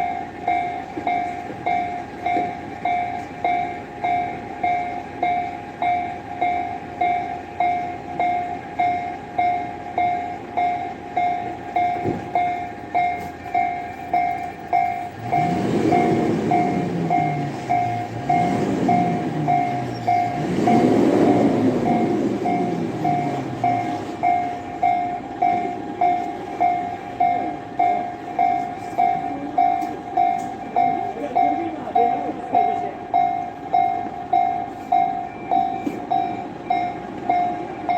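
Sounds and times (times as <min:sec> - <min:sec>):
level-crossing bell ringing: 0:00.0 - 0:37.9
train rumbling past: 0:00.0 - 0:37.9.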